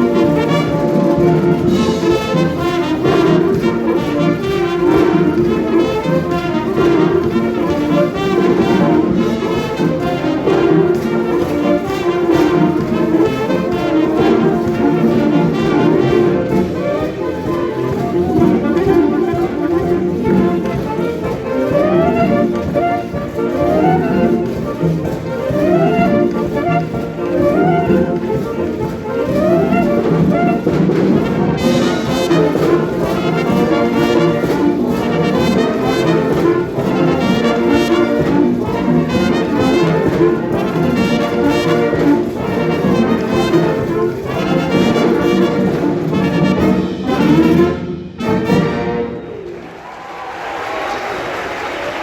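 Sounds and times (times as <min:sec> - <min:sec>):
brass chords: 0:00.0 - 0:50.0
concert band playing: 0:00.0 - 0:52.0.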